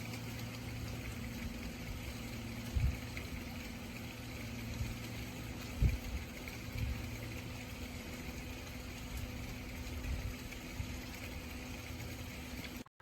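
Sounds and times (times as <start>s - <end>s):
pump motor hum: 0.0s - 13.0s
water rushing through pipes: 0.0s - 13.0s.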